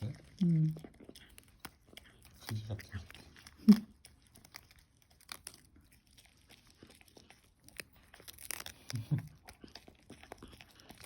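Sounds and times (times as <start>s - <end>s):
dog chewing food: 0.0s - 11.0s.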